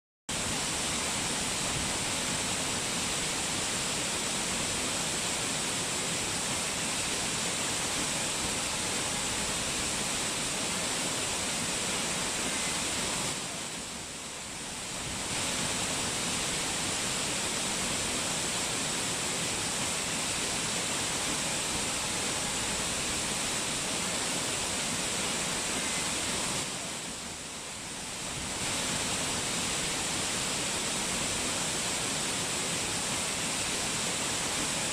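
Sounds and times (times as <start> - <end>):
fast-flowing water rushing: 0.3 - 34.9.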